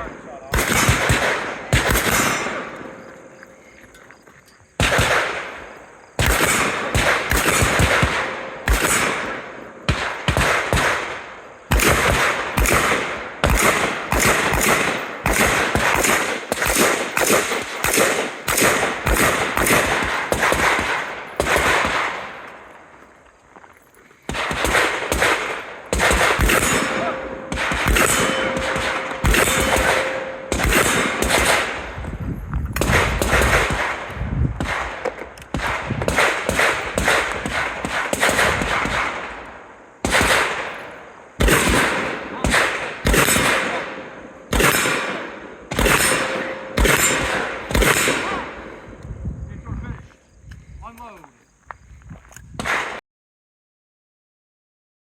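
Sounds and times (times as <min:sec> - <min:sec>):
rifle shots with ringing tail: 0:00.0 - 0:04.0, 0:04.8 - 0:22.9, 0:24.3 - 0:32.2, 0:32.8 - 0:49.0, 0:52.6 - 0:53.0.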